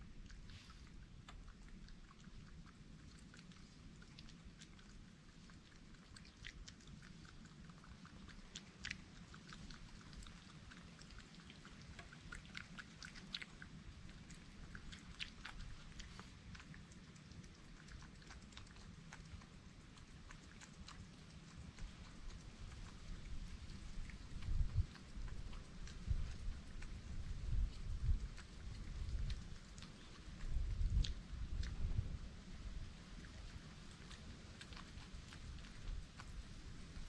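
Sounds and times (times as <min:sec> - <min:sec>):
animal chewing and crunching: 0:00.0 - 0:37.0
steady low hum: 0:00.0 - 0:37.0.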